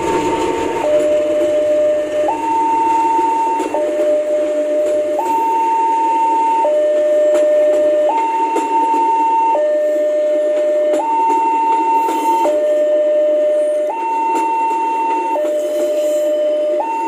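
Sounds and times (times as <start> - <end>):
train coaches rumbling past: 0.0 - 17.0
two-tone crossing alarm: 0.3 - 17.0.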